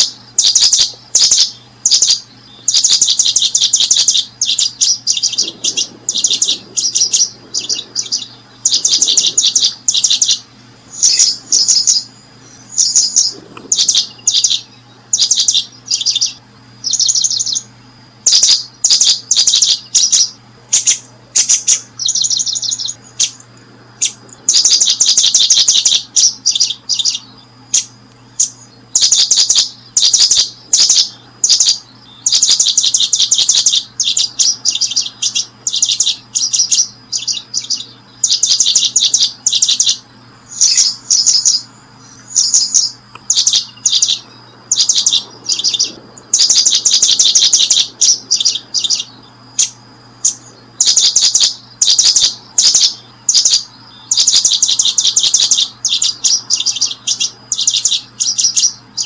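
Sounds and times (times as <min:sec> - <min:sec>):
faint low hum: 0:00.0 - 0:59.0
small birds chirping: 0:00.0 - 0:59.0.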